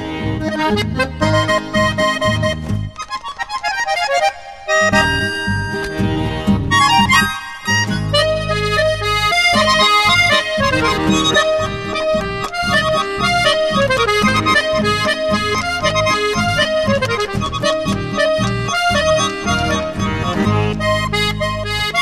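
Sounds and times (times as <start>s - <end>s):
accordion folk tune: 0.0s - 22.0s.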